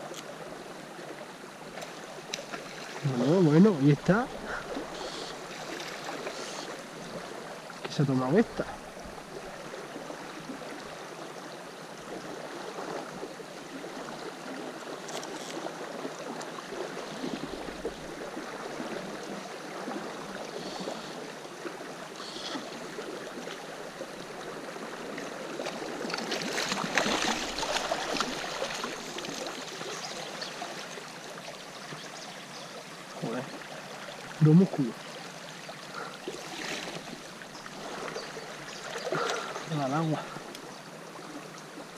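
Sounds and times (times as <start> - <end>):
river water over gravel: 0.0 - 41.9
water splashing: 1.6 - 10.9, 12.1 - 32.1, 33.1 - 40.7.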